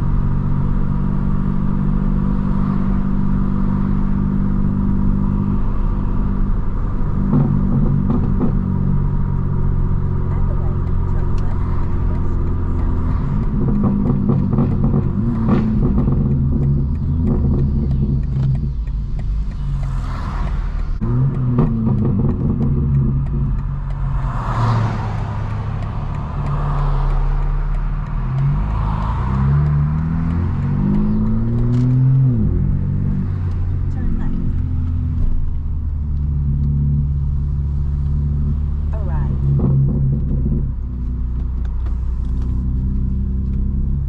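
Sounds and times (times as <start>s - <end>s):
car exhaust revving and upshifting: 0.0s - 44.0s.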